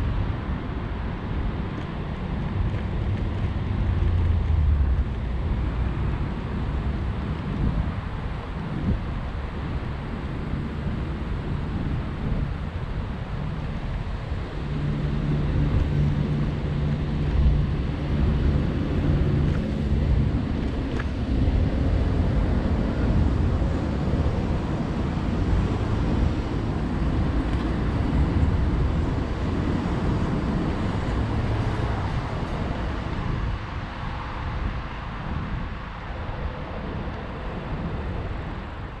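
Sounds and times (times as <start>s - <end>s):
bus engines rumbling: 0.0s - 39.0s
wind buffeting microphone: 0.0s - 39.0s.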